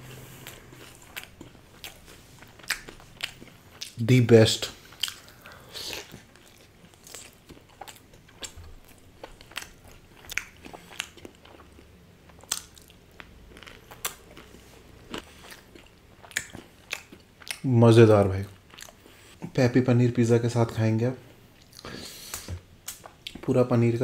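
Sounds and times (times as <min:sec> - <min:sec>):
person chewing food: 0:00.0 - 0:04.0, 0:04.7 - 0:17.7, 0:18.4 - 0:19.4, 0:21.5 - 0:23.4.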